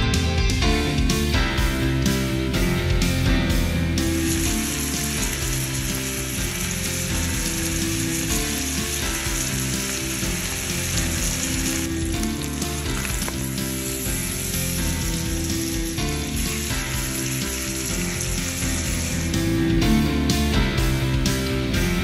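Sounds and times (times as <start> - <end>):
steak sizzling in a skillet: 1.6 - 21.9.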